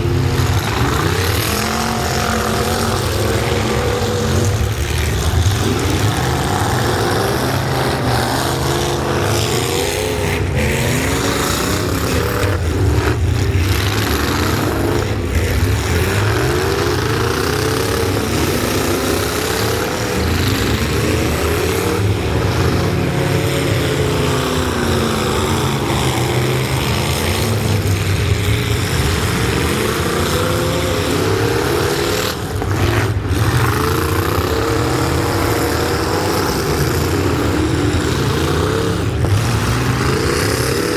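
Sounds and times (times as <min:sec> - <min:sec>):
truck engines revving: 0:00.0 - 0:40.9.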